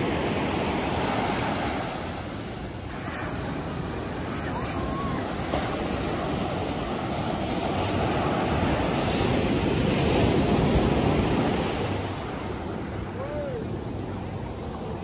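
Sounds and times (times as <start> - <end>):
ocean surf washing up beach: 0.0 - 15.0
wind rumbling on microphone: 0.0 - 15.0.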